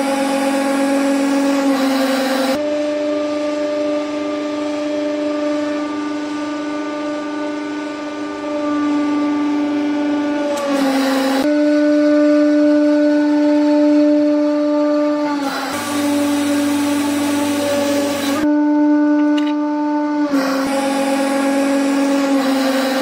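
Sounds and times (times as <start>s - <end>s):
hydraulic pump whining: 0.0s - 23.0s.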